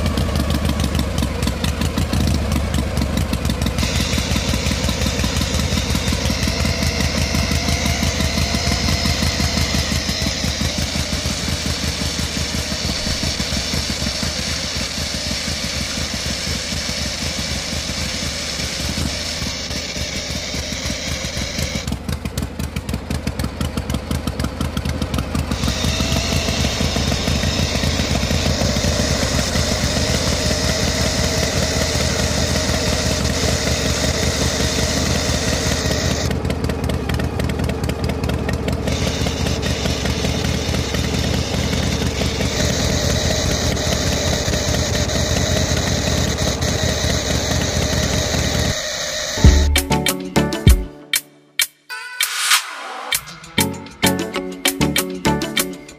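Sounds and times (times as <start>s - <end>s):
toy tractor engine pulsing hum: 0.0s - 51.2s, 53.3s - 55.9s.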